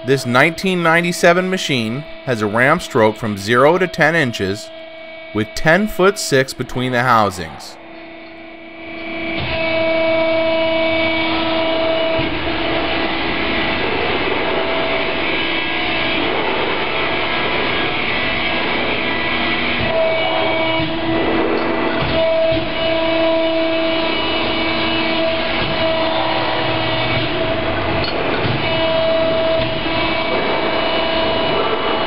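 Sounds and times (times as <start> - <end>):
hydraulic pump whine: 0.0 - 32.0
rushing mechanical noise: 0.0 - 32.0.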